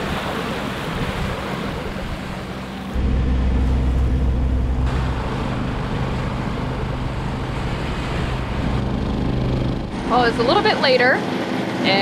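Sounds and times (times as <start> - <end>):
boat engine droning: 0.0 - 12.0
water rushing along hull: 0.0 - 12.0
wind: 0.0 - 12.0.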